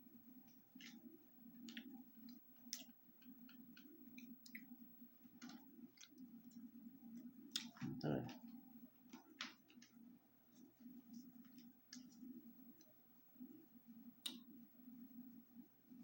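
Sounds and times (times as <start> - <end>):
low room hum: 0.0 - 16.0
faint clicks and crackles: 0.4 - 13.6.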